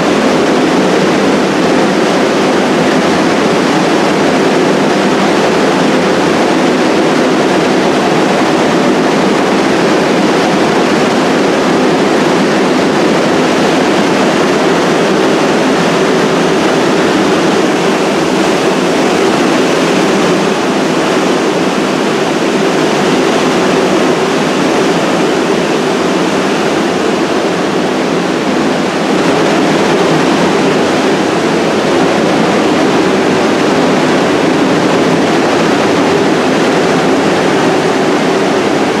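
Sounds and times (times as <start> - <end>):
subway train rushing noise: 0.0 - 39.0.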